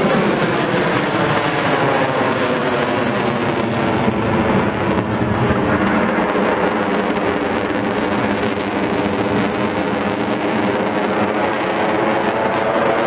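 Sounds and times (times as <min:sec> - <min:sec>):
fighter jet roaring past: 0:00.0 - 0:13.0.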